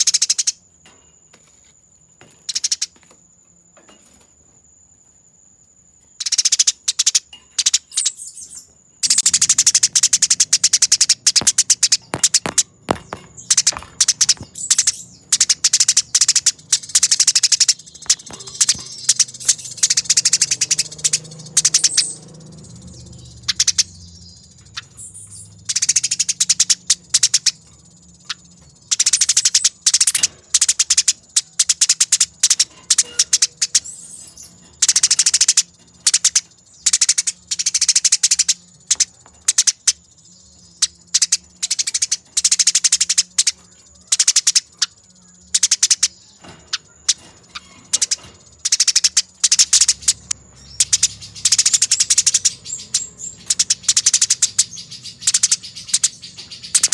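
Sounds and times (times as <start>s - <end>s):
sparrows chattering: 0.0s - 4.8s, 5.9s - 56.9s.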